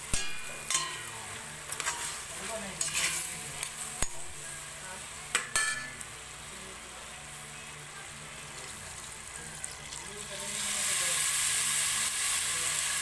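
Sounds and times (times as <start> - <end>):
meat sizzling in pot: 0.0 - 13.0.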